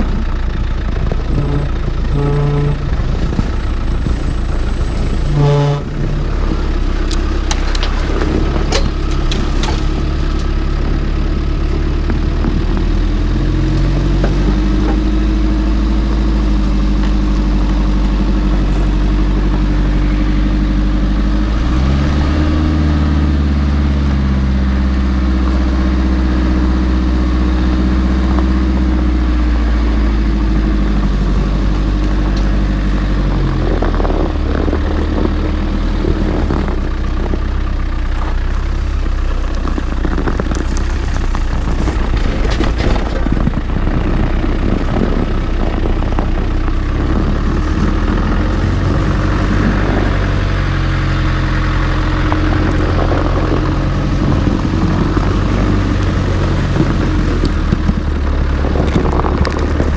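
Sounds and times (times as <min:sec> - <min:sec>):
truck engine revving while driving: 0:00.0 - 0:59.9.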